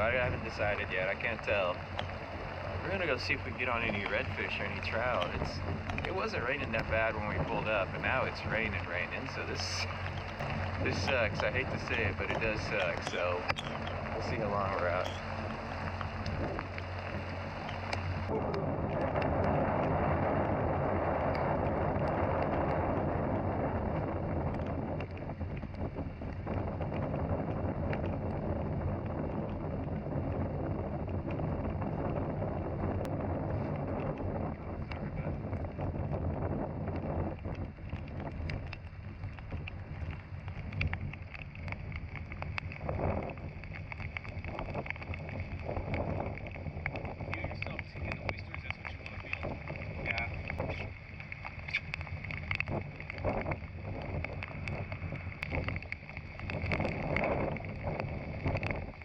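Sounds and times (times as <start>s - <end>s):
boat motor running: 0.0s - 59.0s
rain: 0.0s - 59.0s
wind buffeting microphone: 0.0s - 59.0s.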